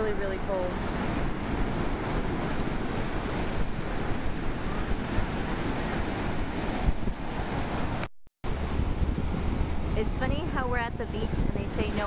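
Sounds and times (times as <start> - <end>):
ocean surf washing in: 0.0 - 12.0
wind buffeting microphone: 0.0 - 12.0.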